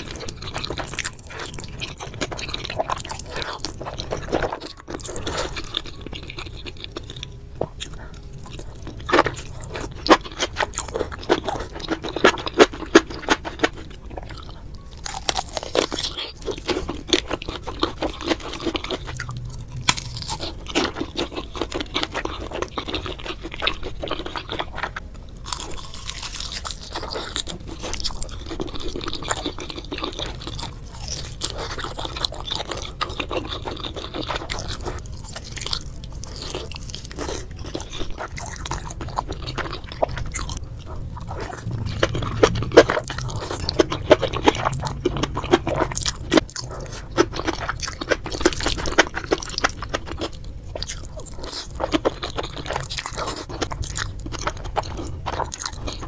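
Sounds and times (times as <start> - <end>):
chewing noodles and sausage: 0.0 - 56.0.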